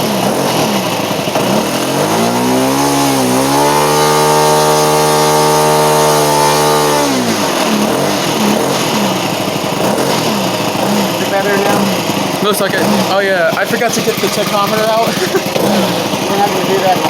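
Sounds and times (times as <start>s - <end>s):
model airplane engine revving: 0.0s - 17.0s.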